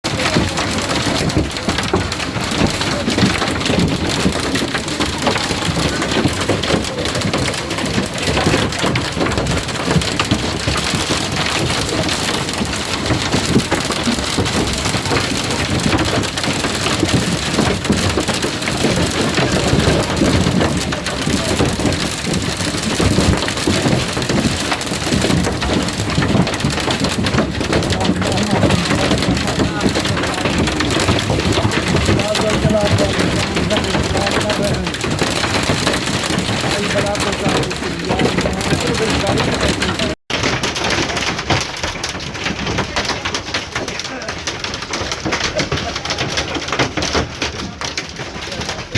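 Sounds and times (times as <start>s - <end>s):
hail and rain pelting: 0.0s - 48.9s.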